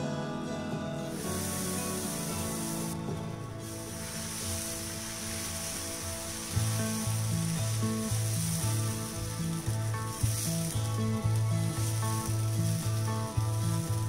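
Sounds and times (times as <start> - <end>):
background music with bass line: 0.0 - 14.0
batter sizzling on a griddle: 1.0 - 14.0.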